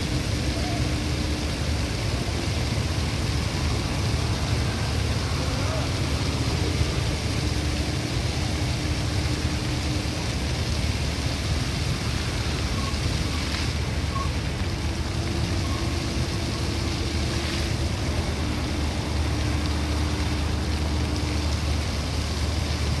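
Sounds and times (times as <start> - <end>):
fountain water jets spraying: 0.0 - 23.0.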